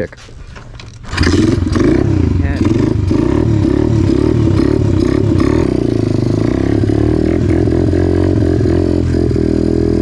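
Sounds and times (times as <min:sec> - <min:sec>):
dirt bike engine running: 0:01.1 - 0:10.0.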